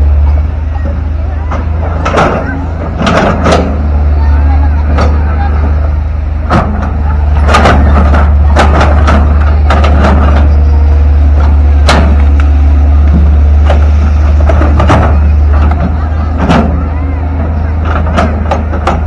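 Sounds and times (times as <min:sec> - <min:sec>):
excavator diesel engine drone: 0:00.0 - 0:19.0
metallic clanks and knocks: 0:00.8 - 0:04.1, 0:06.5 - 0:19.0.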